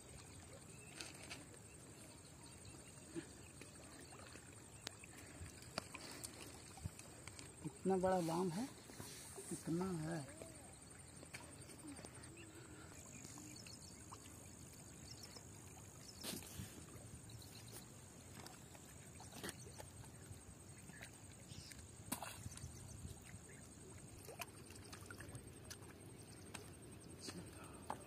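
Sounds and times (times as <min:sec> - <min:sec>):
faint outdoor background: 0:00.0 - 0:28.0.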